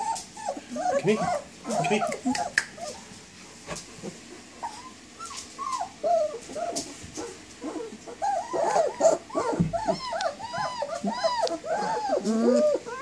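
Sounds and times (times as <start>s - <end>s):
puppies whining and whimpering: 0.0s - 3.1s, 4.6s - 13.0s.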